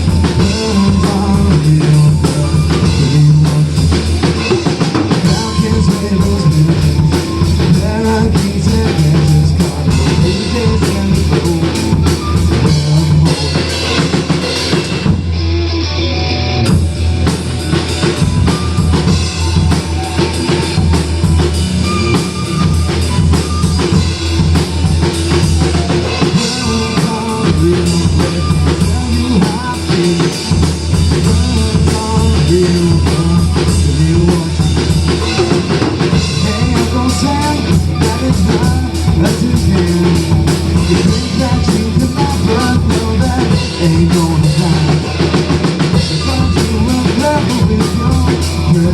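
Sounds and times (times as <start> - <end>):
drum kit beat: 0.0 - 15.5, 16.7 - 48.9
electric guitar: 0.0 - 48.9.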